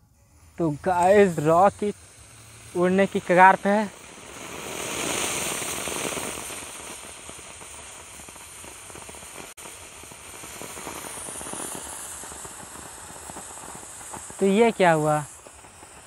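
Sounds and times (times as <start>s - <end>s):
firework rocket hissing and crackling: 0.0s - 16.0s.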